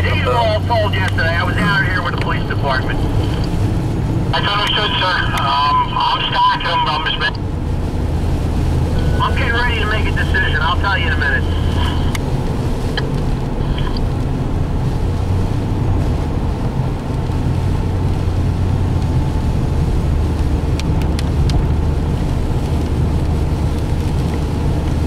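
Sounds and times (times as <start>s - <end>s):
car driving on wet road: 0.0s - 25.0s.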